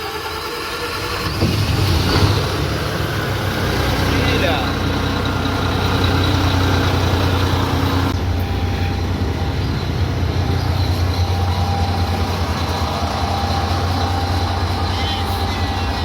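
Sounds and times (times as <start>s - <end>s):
large diesel engine humming: 0.0s - 16.0s.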